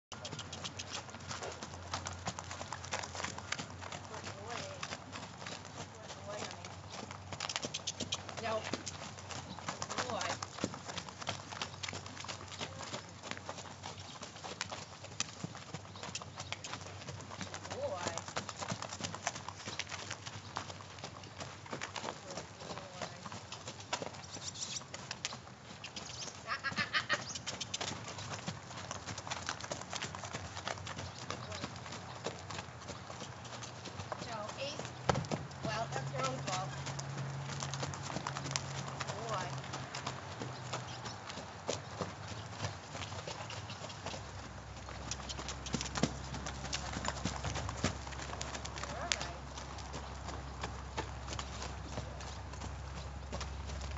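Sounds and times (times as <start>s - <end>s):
horse hoofbeats on sand: 0.1s - 53.9s.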